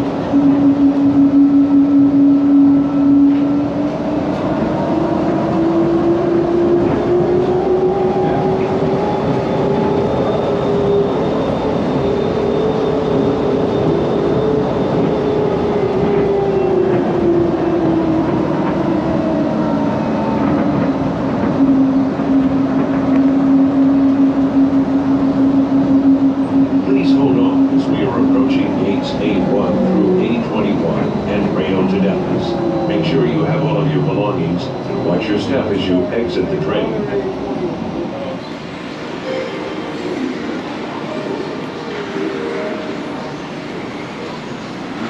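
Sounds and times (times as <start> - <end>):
train car running noise: 0.0 - 45.0.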